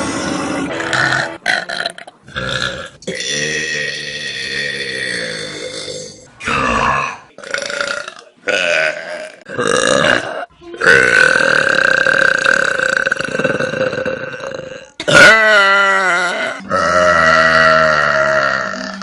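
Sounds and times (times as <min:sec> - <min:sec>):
person burping: 0:00.0 - 0:19.0.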